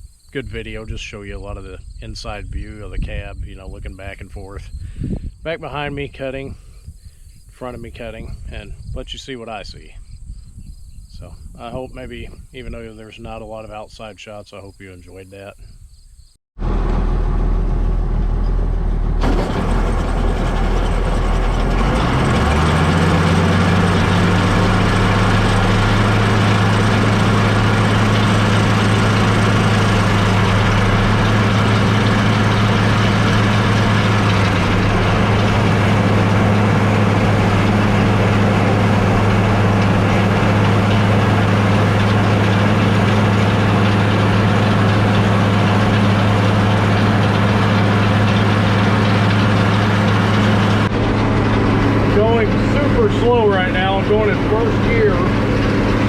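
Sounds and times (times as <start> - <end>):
tractor diesel engine running: 0.3 - 6.7, 16.6 - 56.0.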